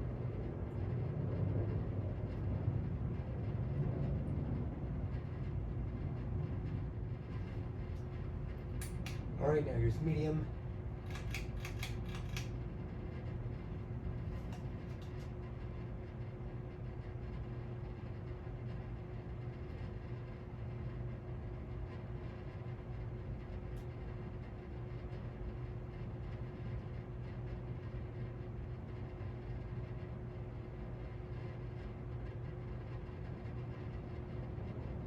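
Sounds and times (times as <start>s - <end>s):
ceiling fan motor hum: 0.0s - 35.0s.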